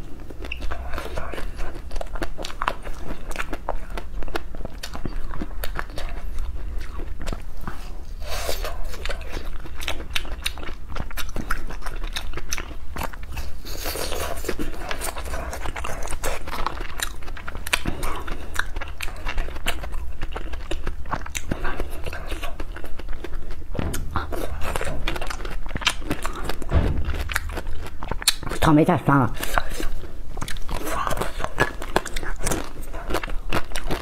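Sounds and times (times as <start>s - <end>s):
person chewing crunchy food: 0.0s - 28.7s, 29.3s - 34.0s.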